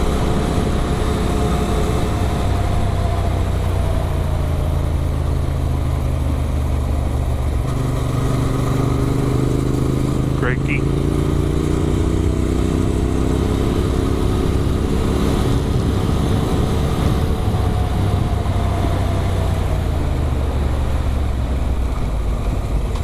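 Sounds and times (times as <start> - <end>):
motorcycle engine cruising: 0.0 - 23.0
wind and road rush: 0.0 - 23.0.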